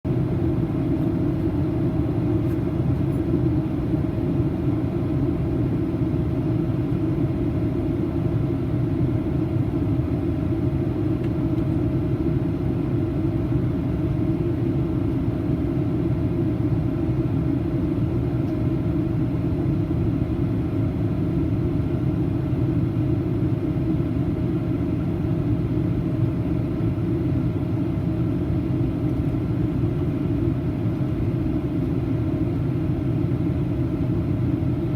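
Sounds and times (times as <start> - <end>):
airplane cabin engine rumble: 0.1 - 34.9.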